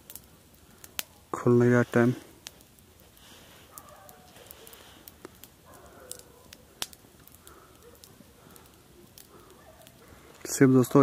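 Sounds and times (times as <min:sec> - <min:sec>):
campfire crackling: 0:00.0 - 0:11.0
sharp pops of burning wood: 0:00.0 - 0:11.0.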